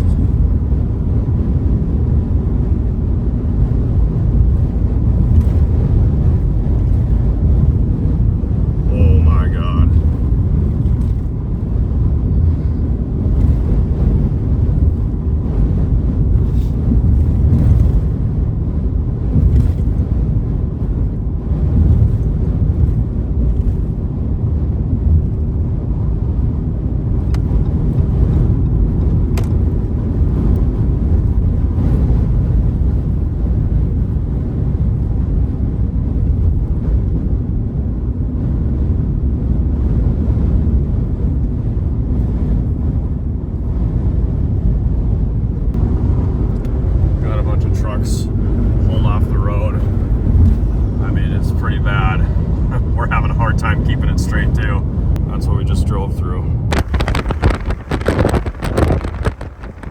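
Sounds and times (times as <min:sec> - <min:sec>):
car driving rumble: 0:00.0 - 0:59.9
wind buffeting vehicle: 0:00.0 - 0:59.9.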